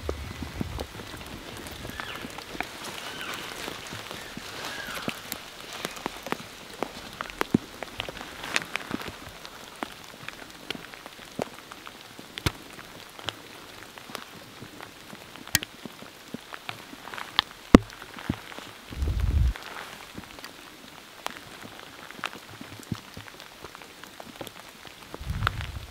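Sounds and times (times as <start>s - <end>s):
rain falling: 0.0s - 25.9s
raindrops ticking close by: 0.0s - 25.9s.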